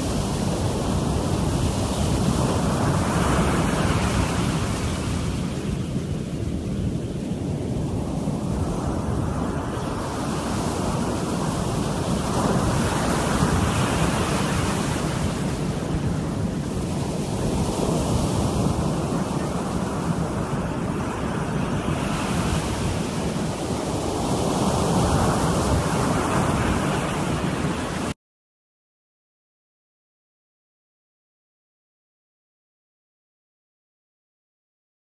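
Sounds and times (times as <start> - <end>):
sea surf washing: 0.0 - 28.2.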